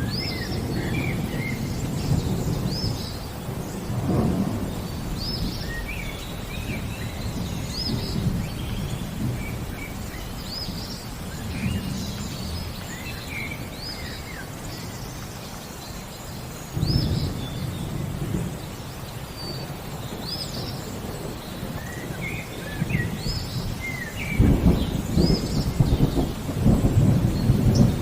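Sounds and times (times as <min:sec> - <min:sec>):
low rolling thunder: 0:00.0 - 0:14.6, 0:16.7 - 0:28.0
birds singing: 0:00.0 - 0:28.0
rain: 0:00.0 - 0:28.0.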